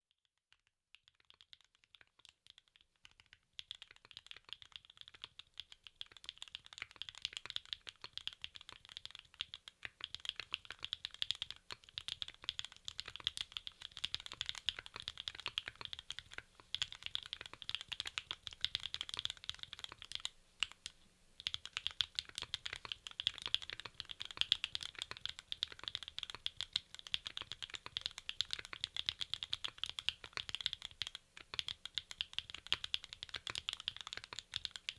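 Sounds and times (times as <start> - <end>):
fast typing on mechanical keyboard: 1.0 - 20.8, 21.4 - 34.9.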